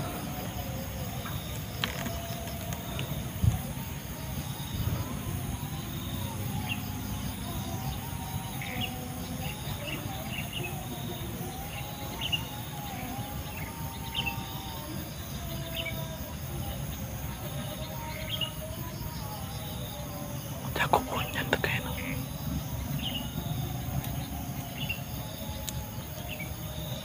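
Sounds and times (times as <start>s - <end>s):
faint wavering drone: 0.0s - 27.0s.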